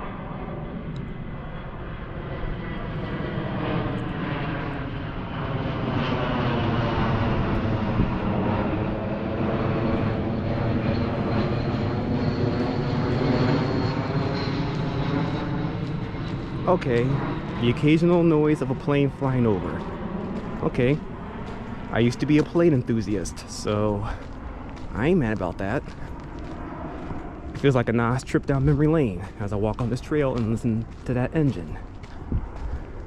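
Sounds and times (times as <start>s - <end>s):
airplane engine droning overhead: 0.0s - 33.0s.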